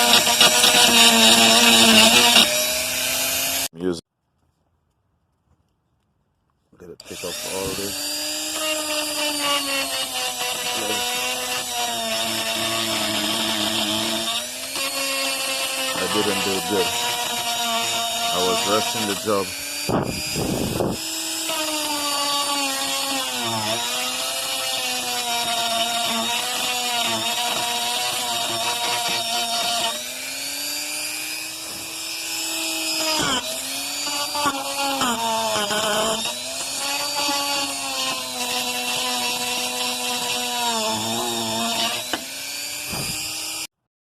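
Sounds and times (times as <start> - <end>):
rotary tool grinding: 0.0 - 3.7, 7.0 - 43.7.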